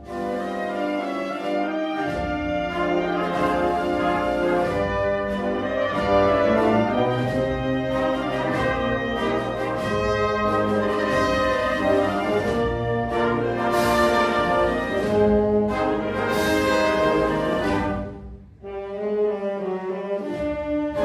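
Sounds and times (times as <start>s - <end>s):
wind band brass melody: 0.0s - 21.0s
drum strokes: 1.4s - 18.3s.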